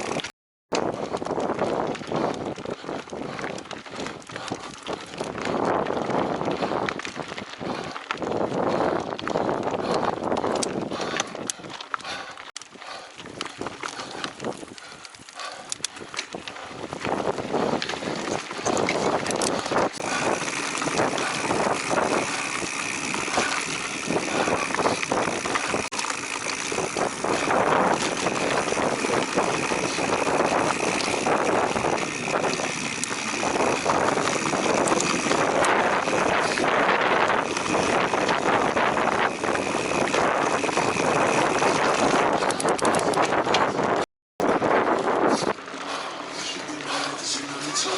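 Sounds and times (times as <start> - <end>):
bike rattles and knocks: 0.0 - 47.1
tyres rolling over dirt and rocks: 0.0 - 47.9
wind on microphone: 0.8 - 11.7, 15.7 - 45.7.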